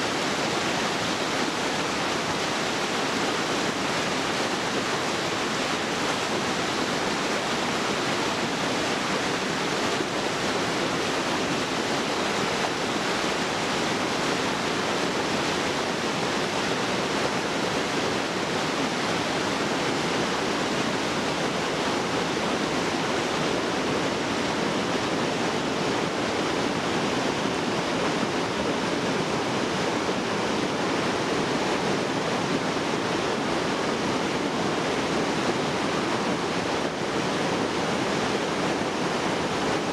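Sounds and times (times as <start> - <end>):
river rapids rushing over boulders: 0.0 - 39.9.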